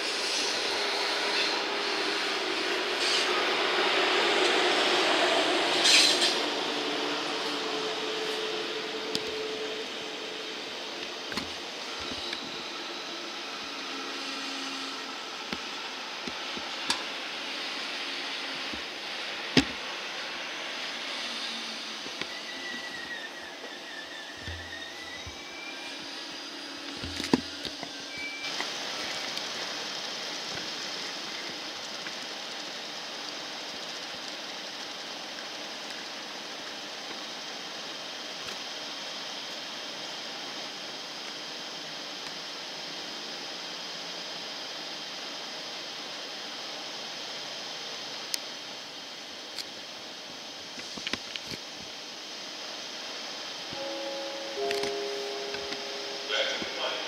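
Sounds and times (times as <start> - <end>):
train rolling past: 0.0 - 51.0, 51.9 - 57.0.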